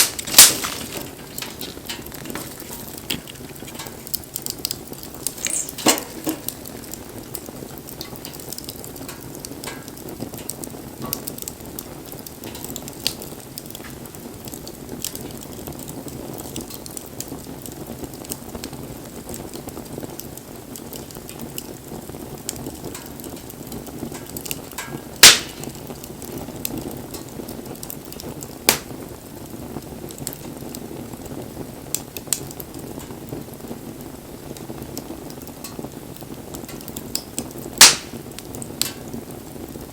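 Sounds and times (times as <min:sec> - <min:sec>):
fire sharp pops: 0:00.0 - 0:39.9
wood fire crackling: 0:00.0 - 0:39.9.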